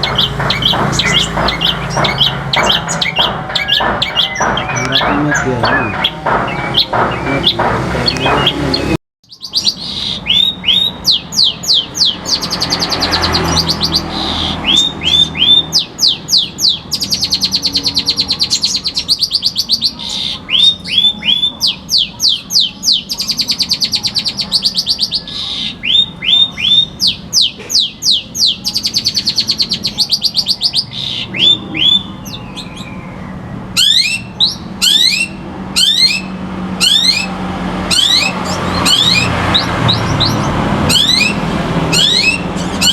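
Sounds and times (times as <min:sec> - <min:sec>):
bird singing whistled song: 0:00.0 - 0:37.3, 0:37.9 - 0:42.9.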